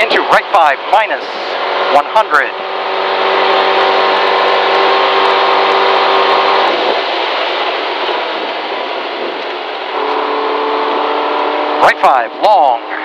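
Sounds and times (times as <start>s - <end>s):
rally car engine high note: 0.0s - 13.0s.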